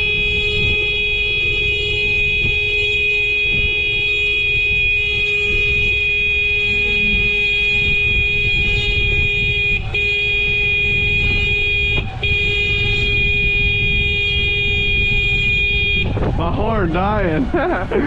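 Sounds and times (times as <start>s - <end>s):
vehicle horn blasts: 0.0s - 16.2s
low wind rush: 0.0s - 18.0s.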